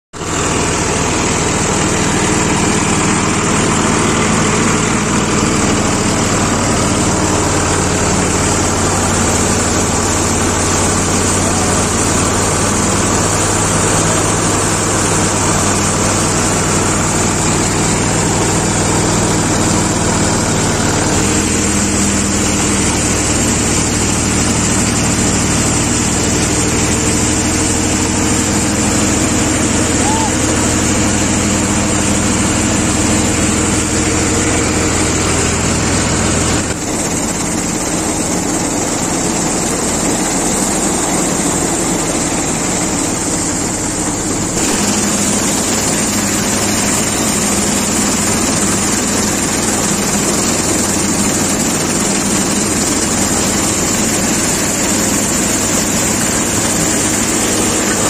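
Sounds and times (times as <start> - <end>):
thresher drum whirring and rattling: 0.2 - 58.0
tractor engine running under load: 0.2 - 58.0.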